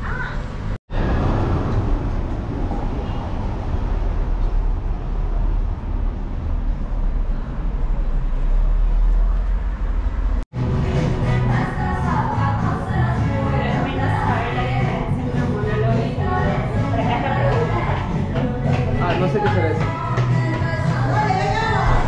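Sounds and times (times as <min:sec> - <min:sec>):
loud rumbling background noise: 0:00.0 - 0:22.0.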